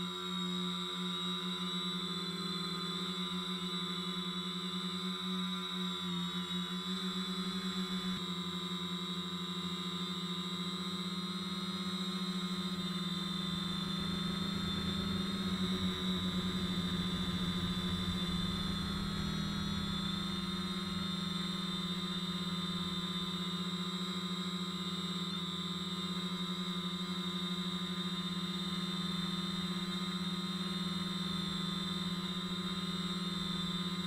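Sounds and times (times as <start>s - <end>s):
drone motors humming and whining: 0.0s - 34.0s.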